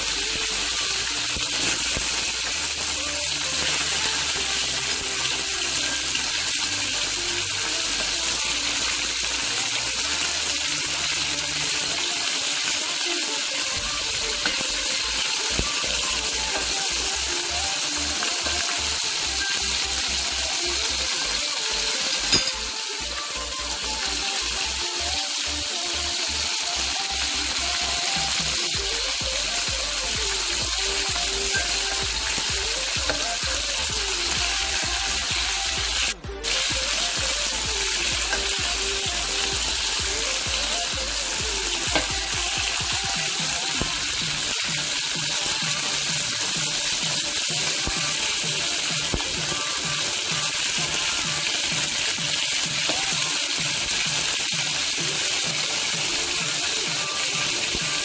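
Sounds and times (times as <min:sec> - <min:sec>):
wings sizzling in hot oil: 0:00.0 - 0:58.0.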